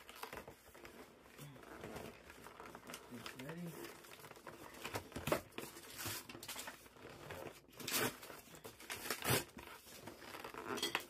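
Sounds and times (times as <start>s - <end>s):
packaging ripping: 0.0s - 11.0s
packaging rustling and crinkling: 0.0s - 11.0s.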